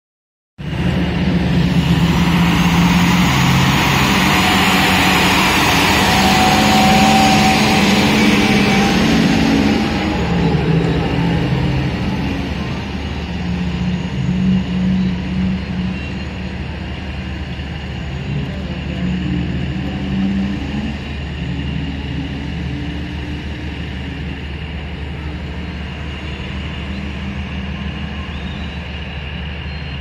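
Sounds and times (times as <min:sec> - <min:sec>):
engine running: 0:00.6 - 0:30.0.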